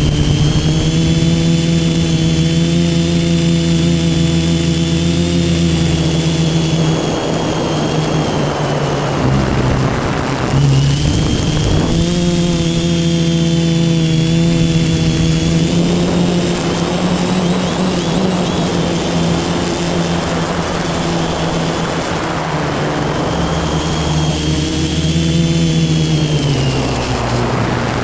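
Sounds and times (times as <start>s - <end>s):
drone motors humming: 0.0s - 28.0s
rough rushing noise: 0.0s - 28.0s.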